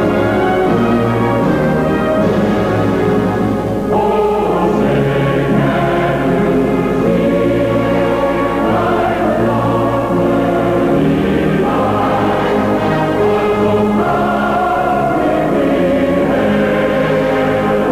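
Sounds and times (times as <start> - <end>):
choir singing sustained chords: 0.0 - 17.9.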